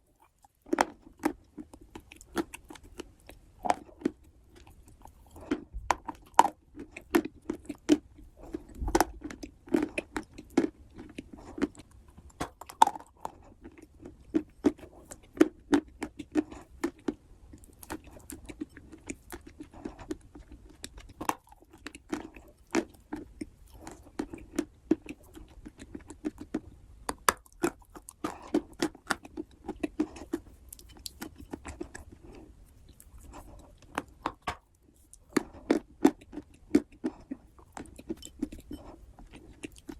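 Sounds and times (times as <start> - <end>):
chewing wet clay squelching: 0.0 - 39.9.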